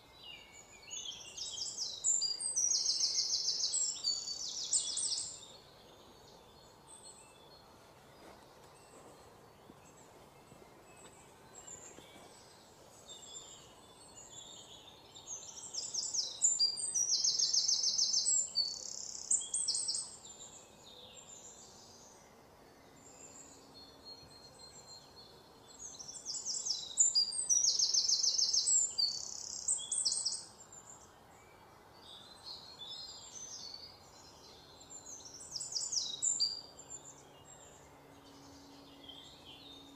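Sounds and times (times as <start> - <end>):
faint outdoor background: 0.0 - 39.9.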